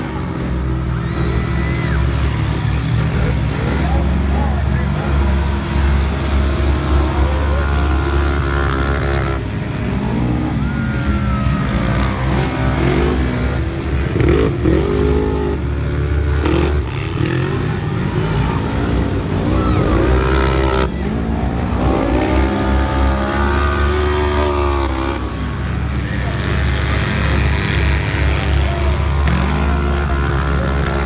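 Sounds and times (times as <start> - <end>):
utv engines revving: 0.0 - 31.0.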